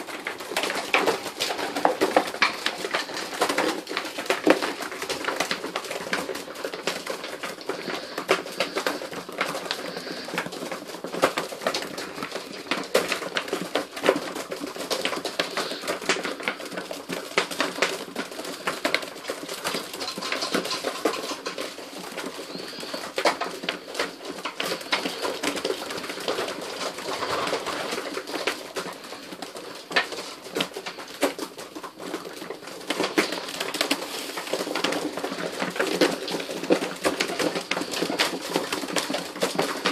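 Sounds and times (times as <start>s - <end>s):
beaks pecking seed: 0.0s - 14.2s, 14.8s - 16.8s, 17.8s - 31.4s, 32.2s - 39.9s
pigeons cooing: 0.0s - 16.8s, 17.8s - 31.4s, 32.1s - 39.9s
wings flapping: 0.0s - 39.9s.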